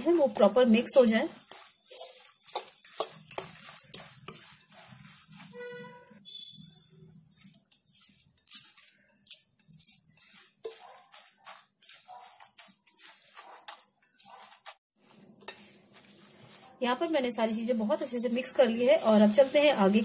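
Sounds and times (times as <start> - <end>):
spoon scraping glass bowl: 0.0 - 17.7
mixture squelching: 0.0 - 20.0.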